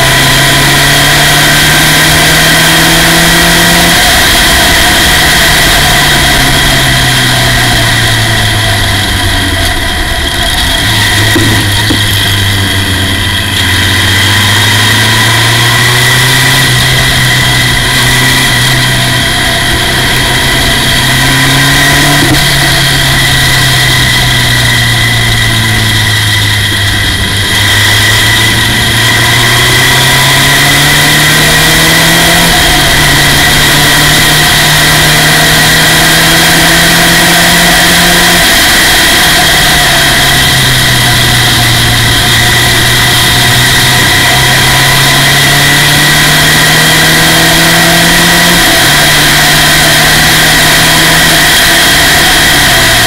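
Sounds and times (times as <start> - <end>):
racing car engine revving: 0.0 - 53.0
steady high whine: 0.0 - 53.0.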